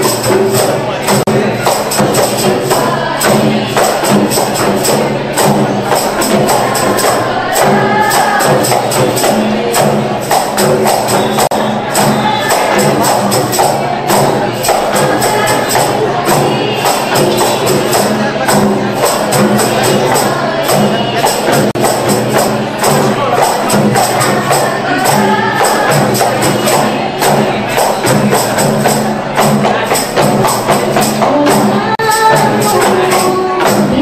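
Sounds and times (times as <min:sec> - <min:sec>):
frame drums beating rapidly: 0:00.0 - 0:34.0
girls singing together: 0:00.0 - 0:34.0.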